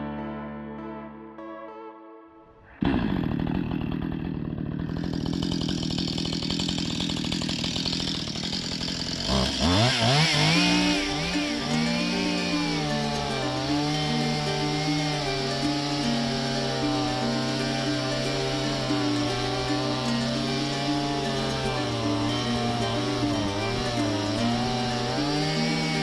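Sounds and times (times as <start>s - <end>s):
chainsaw running and revving: 2.7s - 26.0s.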